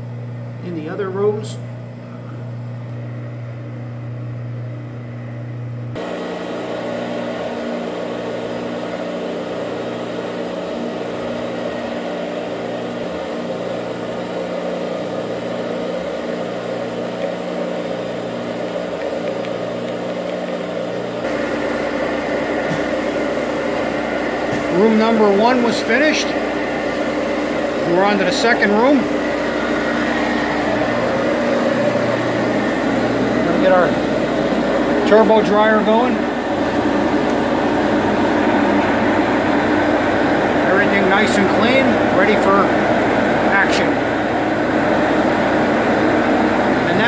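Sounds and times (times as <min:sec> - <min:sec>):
carpet cleaning machine humming: 0:00.0 - 0:47.0.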